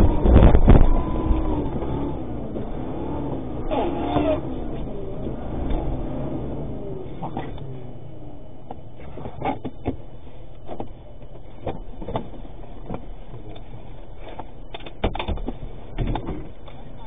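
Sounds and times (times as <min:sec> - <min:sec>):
knocks and clicks of gear: 0:00.0 - 0:02.7, 0:03.6 - 0:06.0, 0:07.2 - 0:07.7, 0:08.6 - 0:17.0
vehicle cab rumble: 0:00.0 - 0:17.0.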